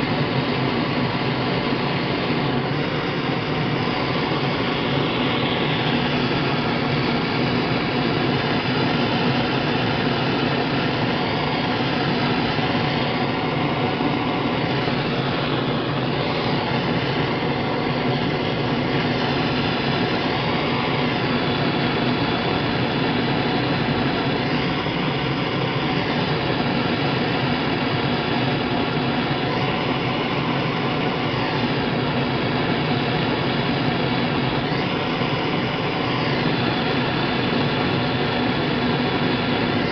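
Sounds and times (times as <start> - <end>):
propane torch roaring: 0.0 - 39.9.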